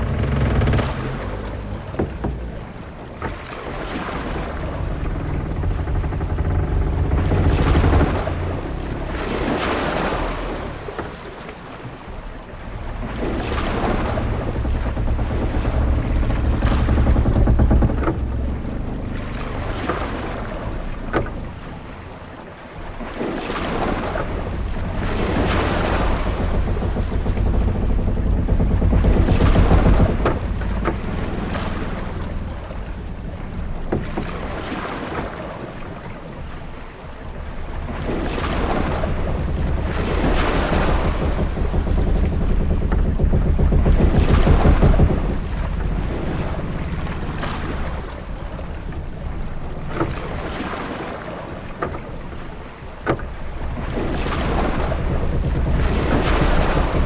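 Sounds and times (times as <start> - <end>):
knocks from ship: 0.0 - 57.0
waves washing against hull: 0.0 - 57.0
wind rumbling: 0.0 - 57.0.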